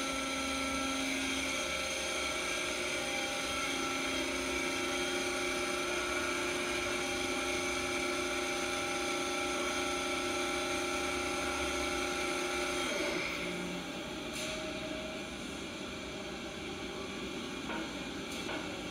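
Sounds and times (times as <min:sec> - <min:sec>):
boring mill whining: 0:00.0 - 0:18.9.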